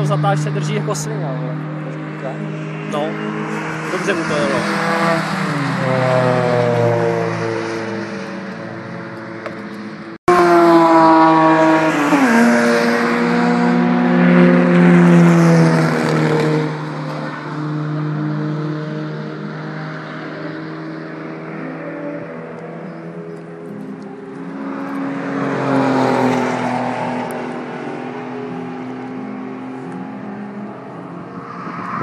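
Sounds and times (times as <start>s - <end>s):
race cars engines at speed: 0.0s - 32.0s.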